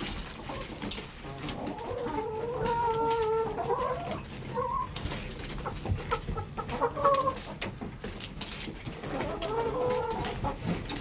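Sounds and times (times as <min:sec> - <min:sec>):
hens clucking and calling: 0:00.0 - 0:11.0.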